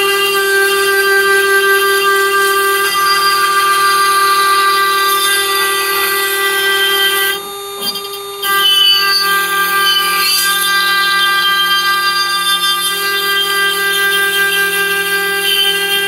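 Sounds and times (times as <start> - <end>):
router spindle whining: 0.0 - 16.0.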